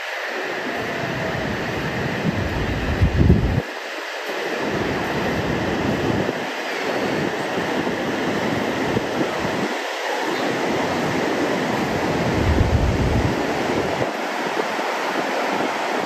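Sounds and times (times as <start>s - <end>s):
ocean surf rushing: 0.0s - 16.0s
wind buffeting microphone: 0.4s - 16.0s.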